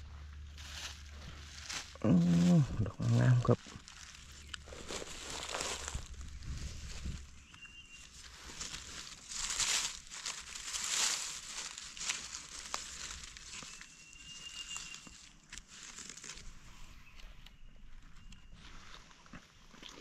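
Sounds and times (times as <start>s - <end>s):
dry leaves crackling and rustling: 0.0s - 16.6s.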